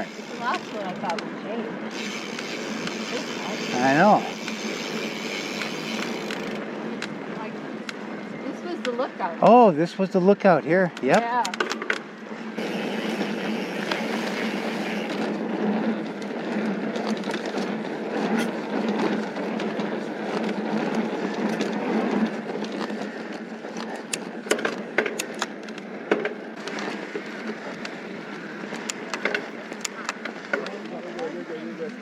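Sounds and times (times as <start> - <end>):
bike tyres rolling on gravel: 0.0 - 7.8, 12.3 - 32.0
bike clicks and rattles: 0.0 - 8.0, 10.8 - 32.0.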